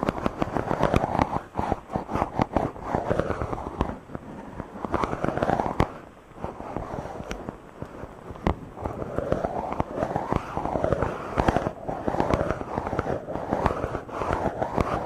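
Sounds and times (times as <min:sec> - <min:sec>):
fingers rubbing on microphone: 0:00.0 - 0:15.0.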